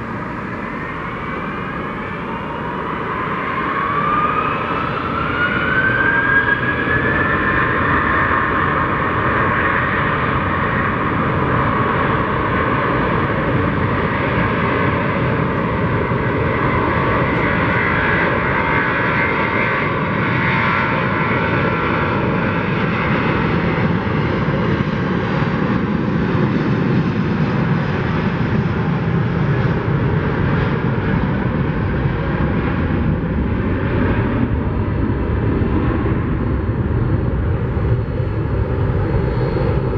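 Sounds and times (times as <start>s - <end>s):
jet engines roaring on takeoff: 0.0s - 39.9s.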